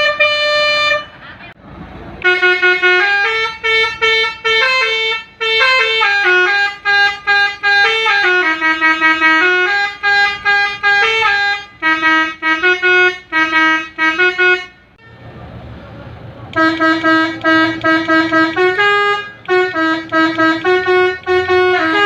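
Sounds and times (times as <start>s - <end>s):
musical bus horn playing a tune: 0.0s - 1.6s, 2.2s - 15.3s, 16.5s - 22.0s.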